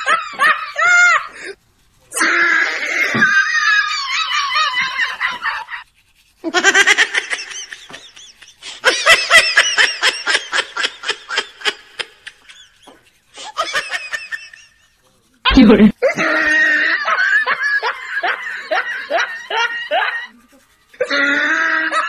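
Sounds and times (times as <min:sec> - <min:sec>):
high-pitched rapid laughter: 0:00.0 - 0:01.5, 0:02.2 - 0:12.8, 0:15.5 - 0:22.0.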